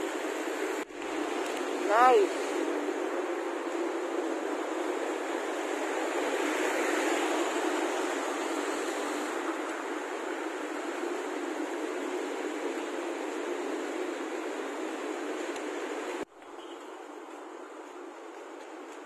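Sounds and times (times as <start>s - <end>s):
road traffic hiss: 0.0s - 19.0s.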